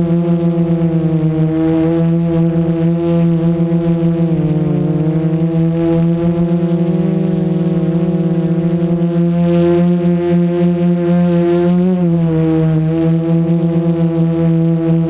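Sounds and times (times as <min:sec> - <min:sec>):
quadcopter droning hum: 0:00.0 - 0:15.0.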